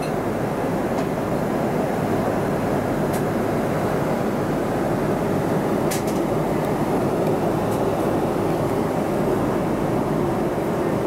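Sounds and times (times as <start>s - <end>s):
airplane cabin noise: 0.0s - 11.0s.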